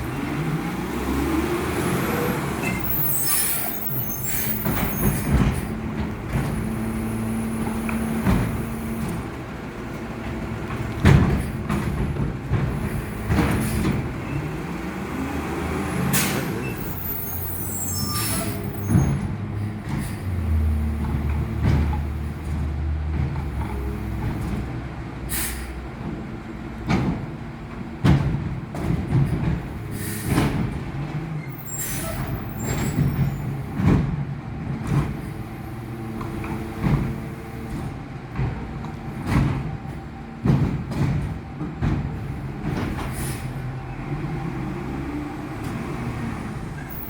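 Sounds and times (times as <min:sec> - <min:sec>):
garbage truck engine running: 0:00.0 - 0:47.0.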